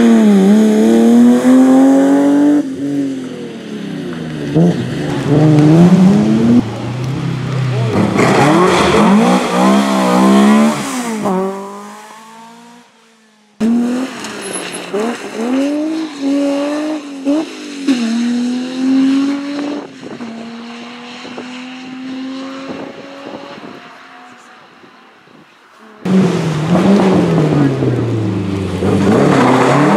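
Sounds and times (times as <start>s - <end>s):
rally car accelerating through gears: 0.0s - 12.9s, 13.6s - 25.2s, 25.8s - 29.9s
rally car engine revving: 0.0s - 29.9s.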